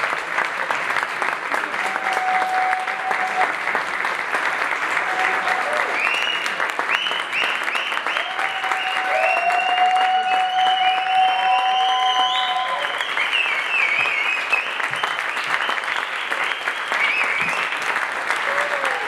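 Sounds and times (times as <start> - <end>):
audience applauding: 0.0 - 19.0
audience cheering: 1.6 - 3.8, 4.7 - 19.0.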